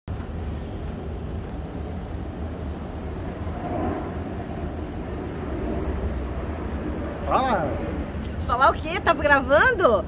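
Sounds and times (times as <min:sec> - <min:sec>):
low rumbling background noise: 0:00.1 - 0:10.0.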